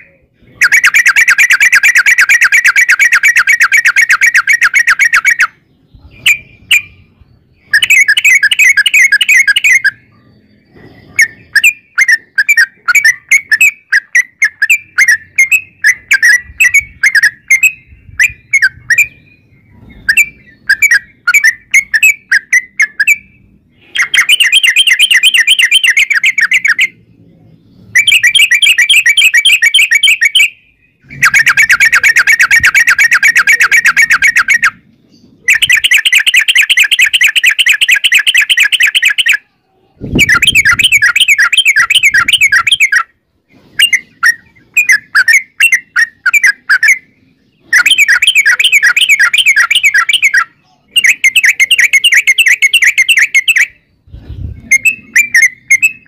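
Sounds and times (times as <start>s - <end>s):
bird rattling song: 0.6s - 10.1s, 10.7s - 27.0s, 27.8s - 39.4s, 40.0s - 56.0s.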